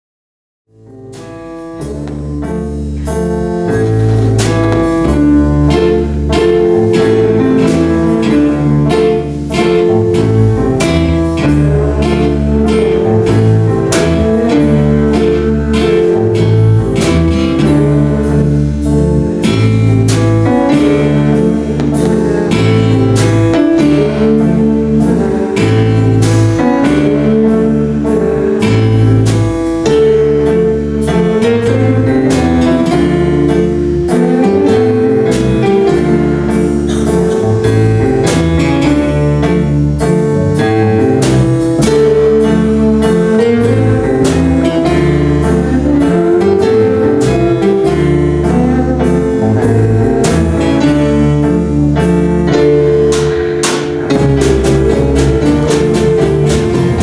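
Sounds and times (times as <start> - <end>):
drum kit steady beat: 0.8 - 57.0
electric guitar: 1.1 - 57.0.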